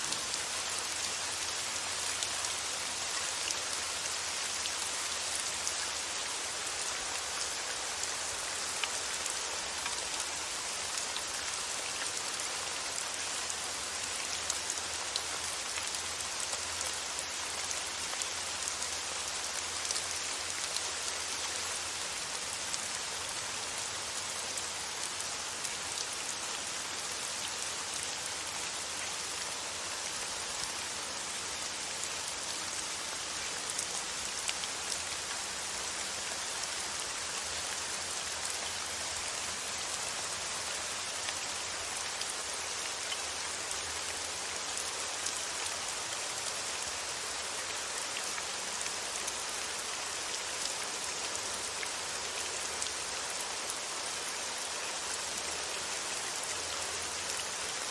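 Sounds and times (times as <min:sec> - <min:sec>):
steady rain patter: 0:00.0 - 0:57.9.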